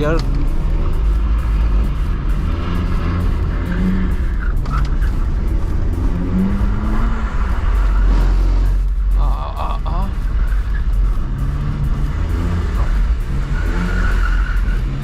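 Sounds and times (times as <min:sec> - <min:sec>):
car engine revving hard: 0:00.0 - 0:15.0
heavy low rumble: 0:00.0 - 0:15.0.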